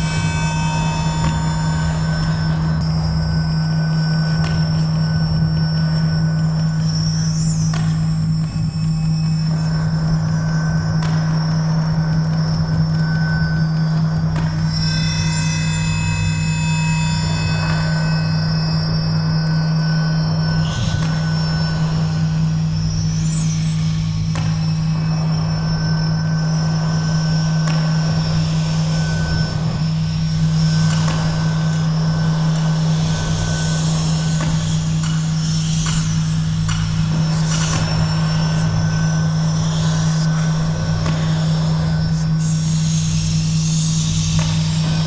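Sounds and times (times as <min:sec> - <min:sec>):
faint high gliding tones: 0:00.0 - 0:45.0
loud low drone: 0:00.0 - 0:45.0.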